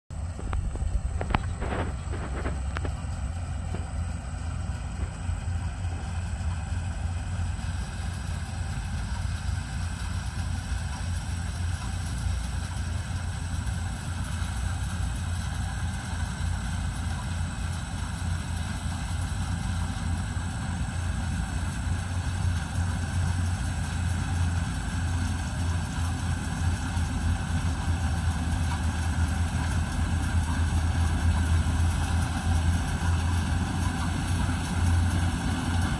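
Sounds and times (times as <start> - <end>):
combine harvester engine rumbling: 0.1 - 35.9.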